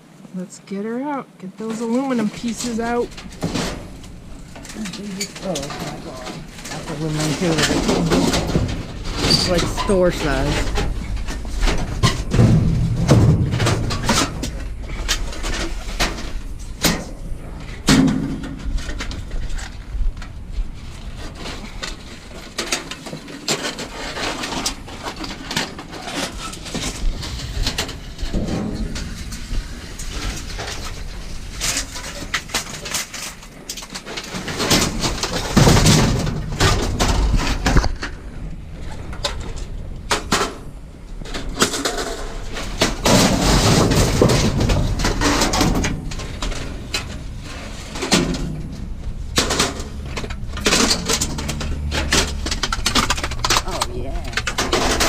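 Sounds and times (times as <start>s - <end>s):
scrap knocking and clattering: 1.6s - 55.0s.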